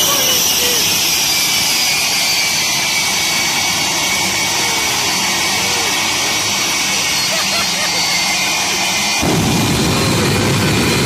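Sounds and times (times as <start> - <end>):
jet engine roaring: 0.0 - 11.0.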